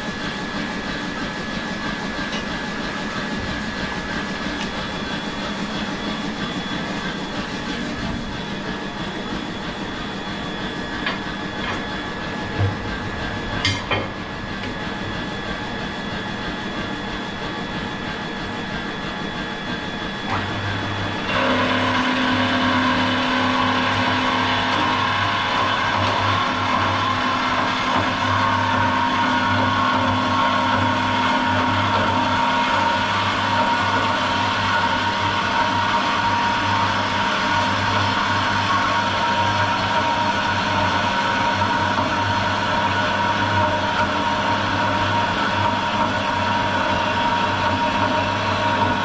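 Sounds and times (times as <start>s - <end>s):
machine with pulsing hum: 0.0s - 49.0s
workshop machinery drone: 0.0s - 49.0s.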